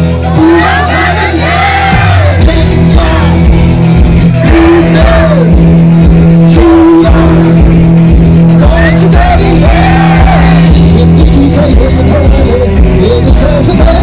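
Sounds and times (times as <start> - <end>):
rock band playing: 0.0 - 14.0
person singing: 0.1 - 3.5, 4.4 - 5.6, 6.4 - 7.7, 8.6 - 14.0
drum beat: 0.4 - 14.0.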